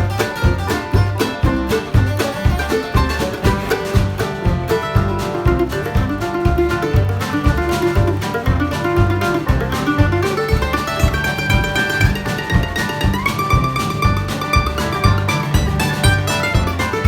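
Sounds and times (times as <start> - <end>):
plucked guitar: 0.0 - 17.0
steady drum beat: 0.0 - 17.0.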